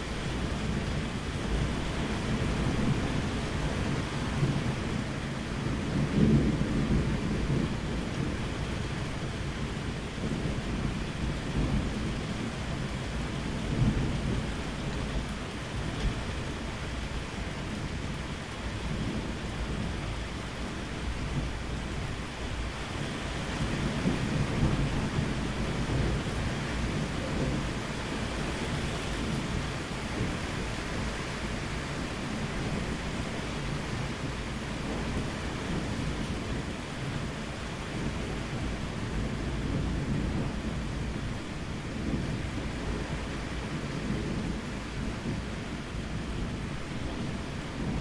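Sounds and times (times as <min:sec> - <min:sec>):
rolling thunder: 0:00.0 - 0:48.0
steady rain: 0:00.0 - 0:48.0.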